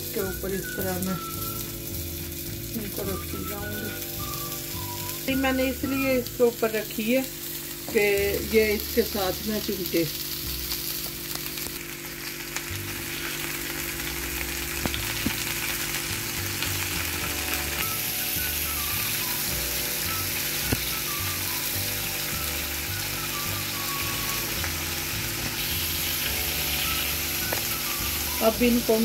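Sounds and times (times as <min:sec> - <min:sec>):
skewers sizzling in oil: 0:00.0 - 0:29.0.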